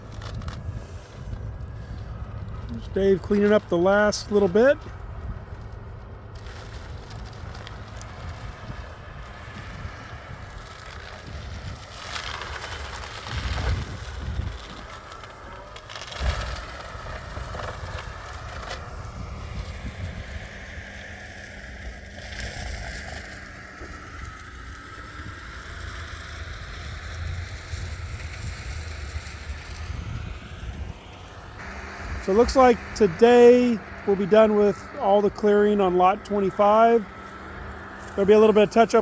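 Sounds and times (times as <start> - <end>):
wind buffeting microphone: 0.0 - 21.8, 22.6 - 39.0
distant brush-clearing machinery: 0.0 - 39.0.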